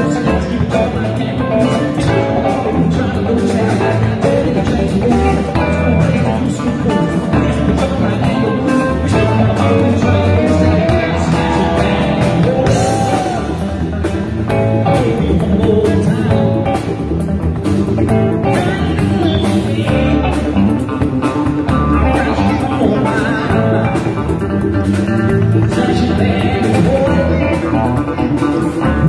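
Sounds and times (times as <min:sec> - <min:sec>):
drum kit with cymbals: 0:00.0 - 0:29.0
electric bass: 0:00.0 - 0:29.0
electric guitar: 0:00.0 - 0:29.0
man singing: 0:00.0 - 0:29.0.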